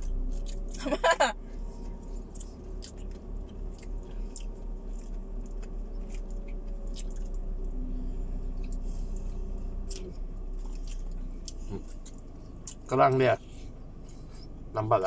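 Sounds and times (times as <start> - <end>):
people chewing food: 0.0 - 14.7
steady low hum: 0.0 - 15.0.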